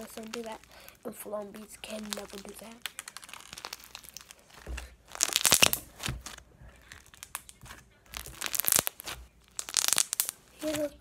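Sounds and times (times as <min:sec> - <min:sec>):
slime crackling and popping: 0:00.0 - 0:11.0.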